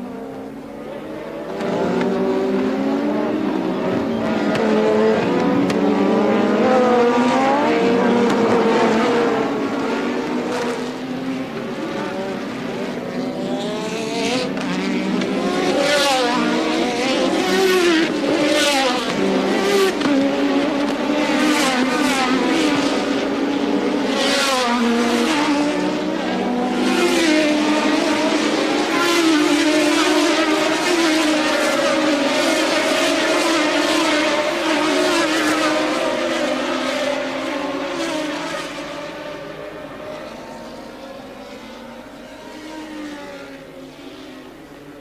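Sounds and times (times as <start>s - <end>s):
racing car engines: 0.0s - 45.0s.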